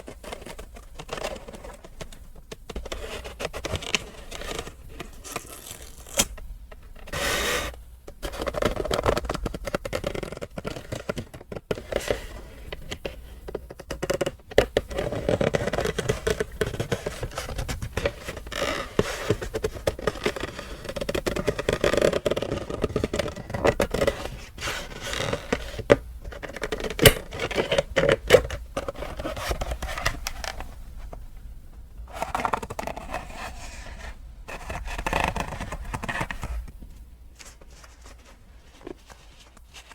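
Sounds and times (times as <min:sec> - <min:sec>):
packaging scraping and rustling: 0:00.0 - 0:31.2, 0:32.0 - 0:39.9.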